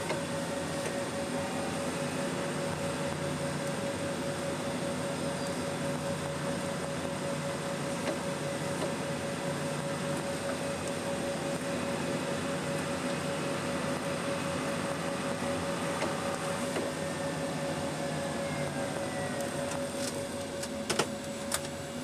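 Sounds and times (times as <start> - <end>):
constant whine: 0.0 - 22.0
tractor engine running: 0.0 - 22.0.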